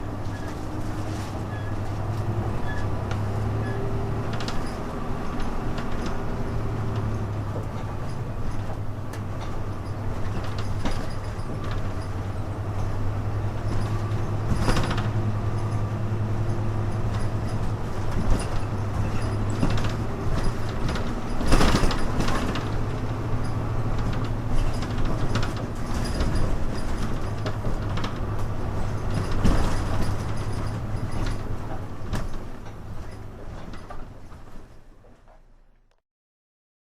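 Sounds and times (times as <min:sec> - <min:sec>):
bus engine humming: 0:00.0 - 0:35.6
body knocks and rattles: 0:04.3 - 0:35.4.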